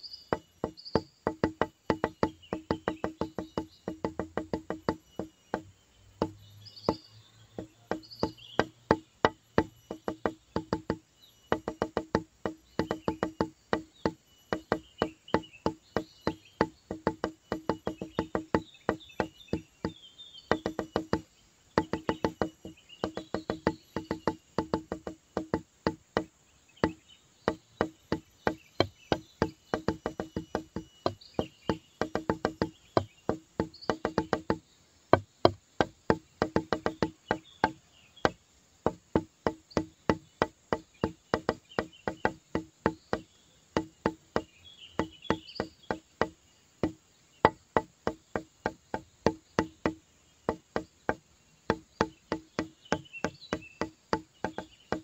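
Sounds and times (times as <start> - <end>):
fast clicking beat: 0.3 - 55.0.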